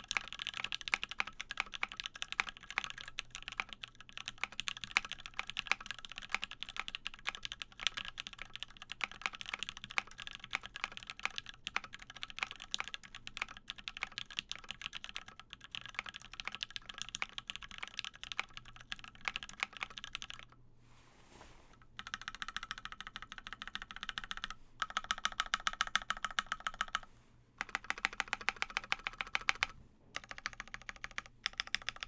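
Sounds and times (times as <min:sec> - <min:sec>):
mechanical keyboard typing: 0:00.0 - 0:20.6, 0:22.0 - 0:32.0.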